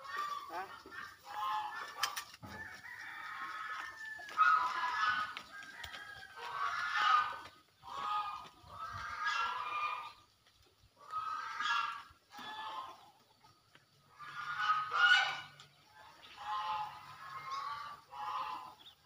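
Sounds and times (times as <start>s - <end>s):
poultry calling: 0.0s - 19.0s.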